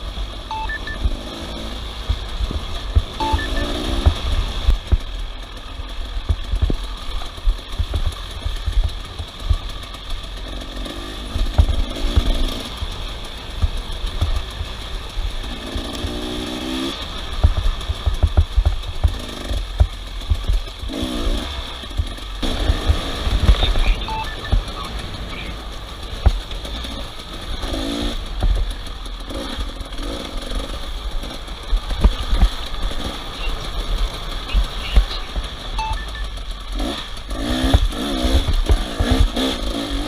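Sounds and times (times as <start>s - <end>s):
motorcycle engines revving: 0.0s - 40.0s.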